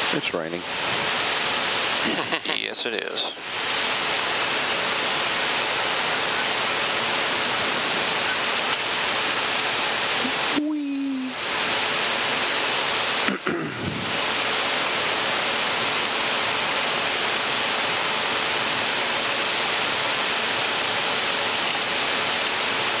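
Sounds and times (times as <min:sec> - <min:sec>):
jet cockpit rushing hiss: 0:00.0 - 0:23.0.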